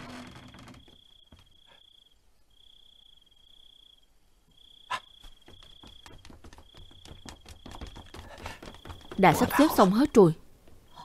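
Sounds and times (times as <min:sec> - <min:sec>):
crickets chirping: 0:00.2 - 0:10.2, 0:10.8 - 0:11.0.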